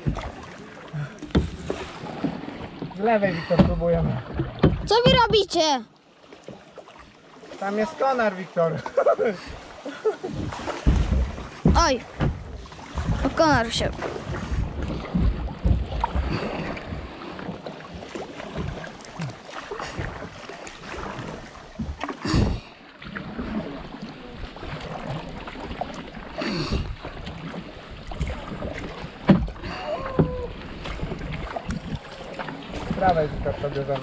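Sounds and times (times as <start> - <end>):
kayak paddles splashing: 0.0 - 34.0.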